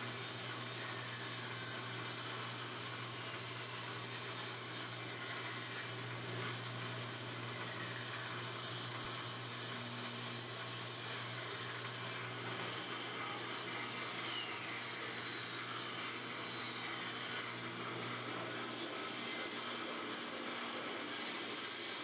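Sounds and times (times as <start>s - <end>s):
machine or fan humming: 0.0s - 22.0s.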